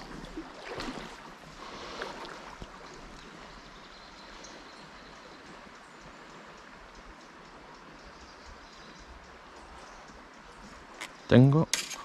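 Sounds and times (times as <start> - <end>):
river flowing: 0.0 - 12.0.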